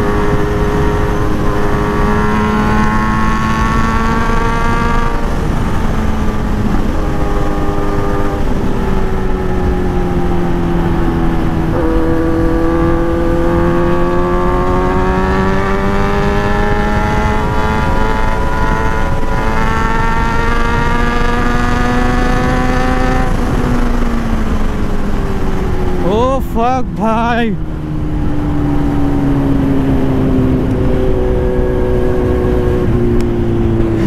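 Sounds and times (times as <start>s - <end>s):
heavy wind rush: 0.0s - 34.0s
motorcycle engine at full throttle: 0.0s - 34.0s.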